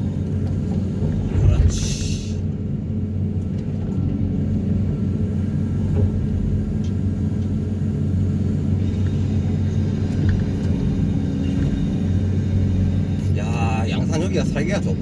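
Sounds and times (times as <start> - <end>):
heavy machinery humming: 0.0 - 15.0.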